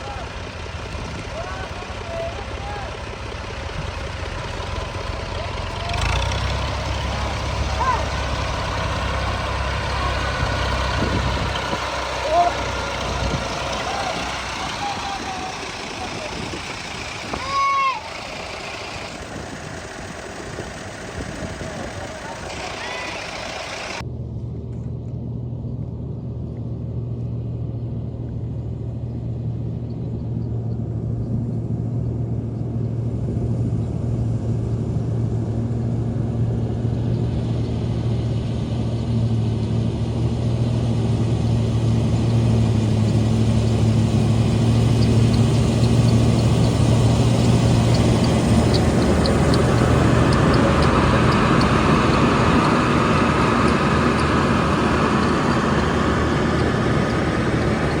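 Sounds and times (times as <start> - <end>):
diesel engine hum: 0.0 - 58.0.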